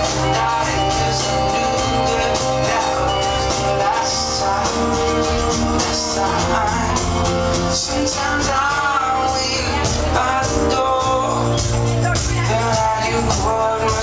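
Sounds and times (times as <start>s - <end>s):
man singing: 0.0s - 14.0s
pop-rock backing track: 0.0s - 14.0s.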